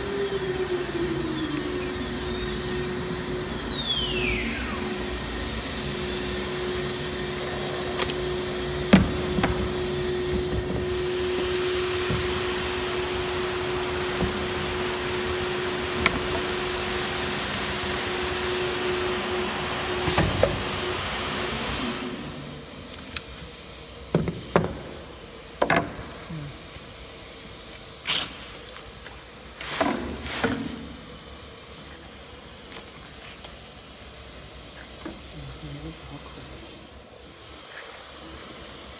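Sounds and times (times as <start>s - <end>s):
vacuum pump humming and hissing: 0.0s - 38.9s.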